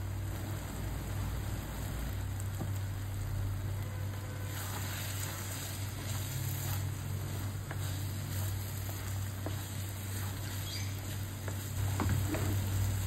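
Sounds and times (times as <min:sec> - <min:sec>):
gravy sizzling in a pan: 0:00.0 - 0:13.0.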